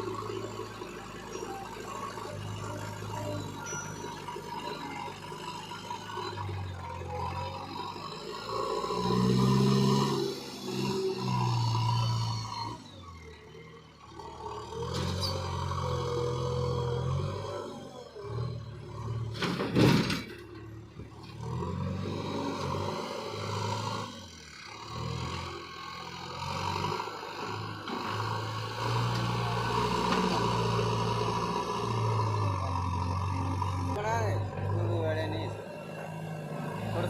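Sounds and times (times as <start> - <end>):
excavator diesel engine working: 0.0 - 37.0.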